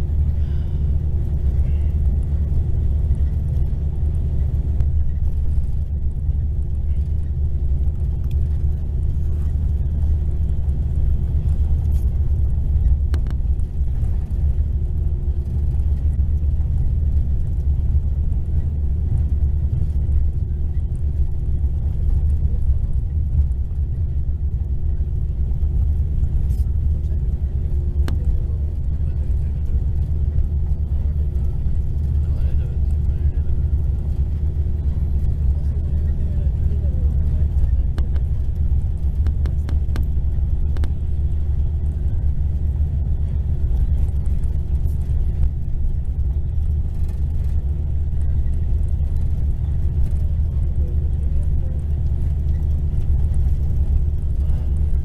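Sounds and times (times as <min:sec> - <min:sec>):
coach engine rumble: 0:00.0 - 0:55.0
road noise: 0:00.0 - 0:55.0.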